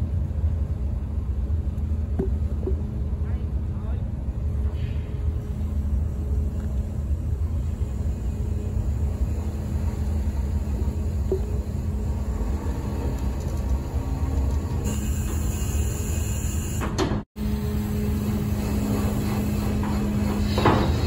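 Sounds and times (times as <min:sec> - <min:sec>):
machinery droning hum: 0:00.0 - 0:21.0
ship engine low rumble: 0:00.0 - 0:21.0.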